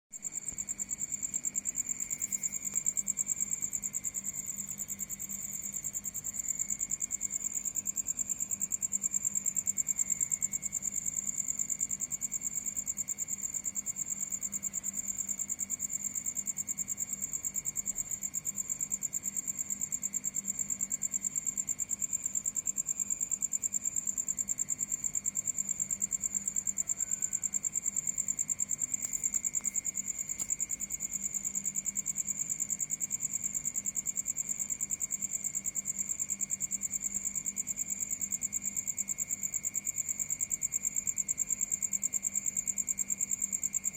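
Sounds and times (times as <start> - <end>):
crickets chirring: 0.2 - 43.9
low insect or frog chorus: 0.2 - 43.9.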